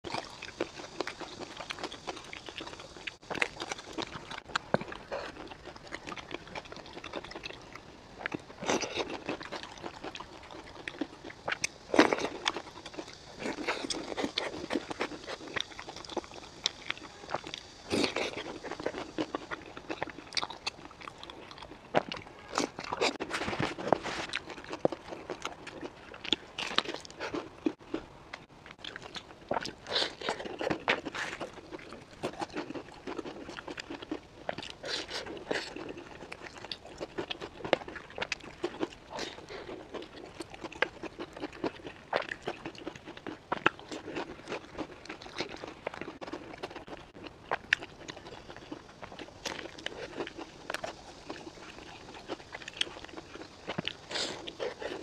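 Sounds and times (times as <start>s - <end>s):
chewing: 0.0s - 55.0s
crunchy bites: 0.1s - 55.0s.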